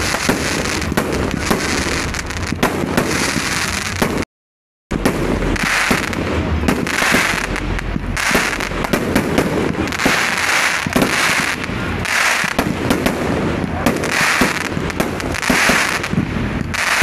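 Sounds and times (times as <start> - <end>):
fireworks hiss: 0.0 - 4.2, 5.0 - 17.0
fireworks bangs: 0.0 - 4.3, 4.9 - 17.0.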